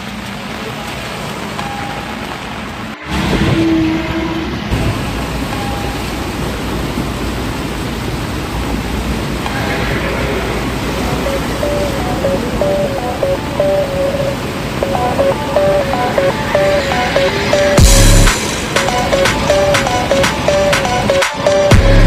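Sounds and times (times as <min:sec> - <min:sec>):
rain hiss: 0:00.0 - 0:03.5, 0:04.4 - 0:21.1
river rushing: 0:00.0 - 0:22.0
tyres on wet road: 0:00.0 - 0:22.0.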